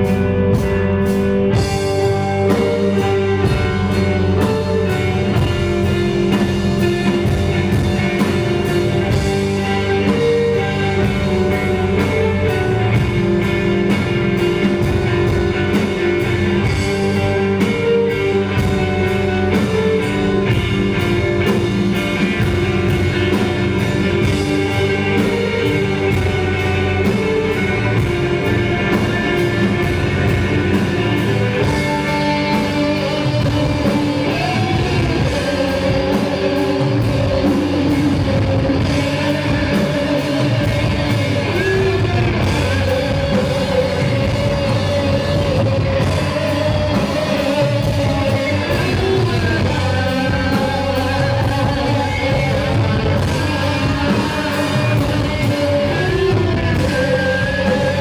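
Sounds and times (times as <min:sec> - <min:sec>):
bass guitar: 0:00.0 - 0:58.0
electric guitars droning: 0:00.0 - 0:58.0
steady drumming: 0:00.0 - 0:58.0.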